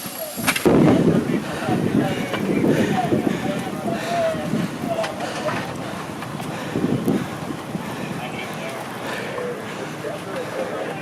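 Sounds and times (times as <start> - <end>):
strong wind buffeting microphone: 0.3 - 11.0.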